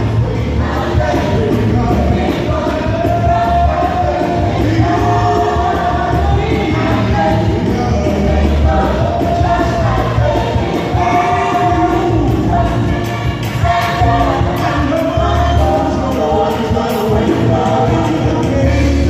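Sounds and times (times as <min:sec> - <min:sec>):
choir singing gospel song: 0:00.0 - 0:19.0
instrumental accompaniment with beat: 0:00.0 - 0:19.0.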